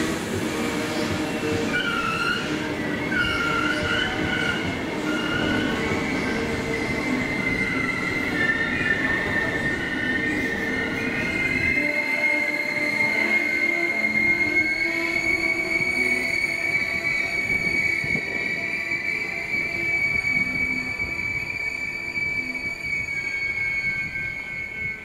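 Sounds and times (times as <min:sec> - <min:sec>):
low train rumble: 0:00.0 - 0:25.0
train wheels squealing on rails: 0:00.0 - 0:25.0.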